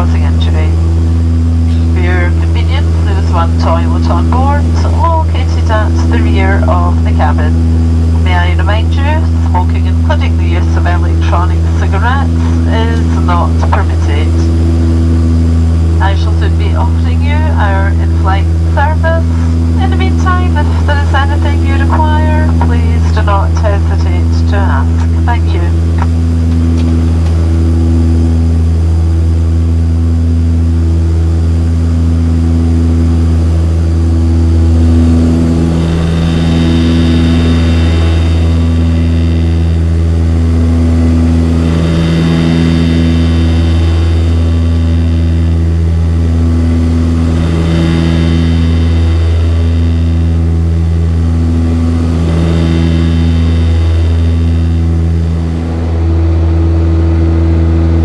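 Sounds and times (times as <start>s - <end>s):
high engine whine: 0.0s - 58.0s
propeller engine drone: 0.0s - 58.0s.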